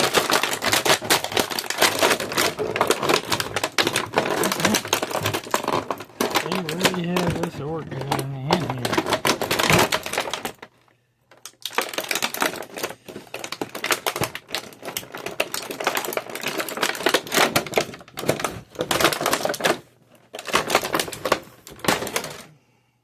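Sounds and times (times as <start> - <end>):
plastic packaging crackling: 0.0 - 22.5.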